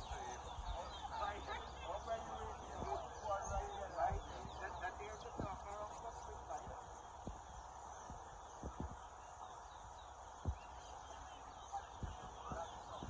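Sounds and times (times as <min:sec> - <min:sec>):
finches chirping and whistling: 0:00.0 - 0:13.0.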